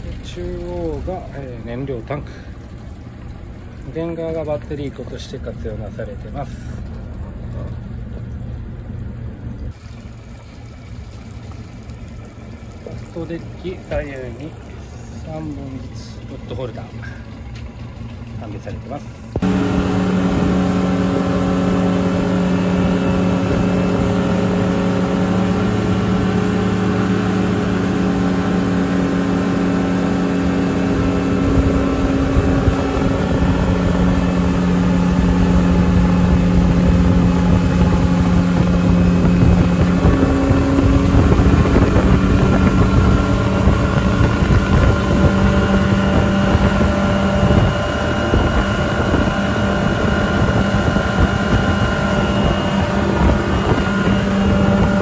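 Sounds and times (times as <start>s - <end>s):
outboard motor running: 0.0s - 55.0s
water rushing under boat: 0.0s - 55.0s.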